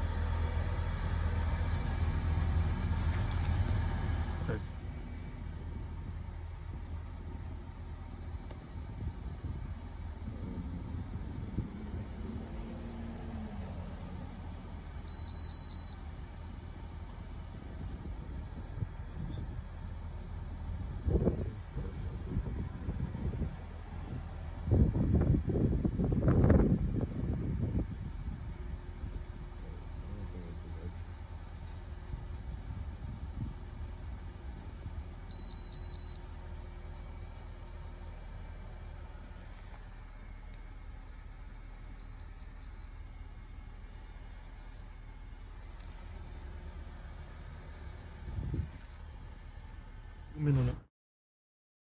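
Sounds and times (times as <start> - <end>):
low rumble in car: 0.0 - 50.9.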